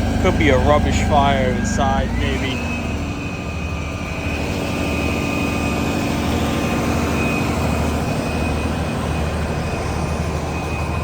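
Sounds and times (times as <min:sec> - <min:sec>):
machine drone with high whine: 0:00.0 - 0:11.0.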